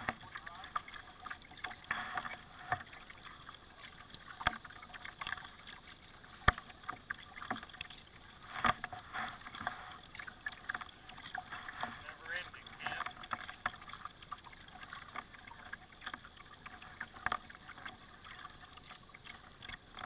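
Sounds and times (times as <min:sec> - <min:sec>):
paddle strokes splashing: 0:00.0 - 0:20.0.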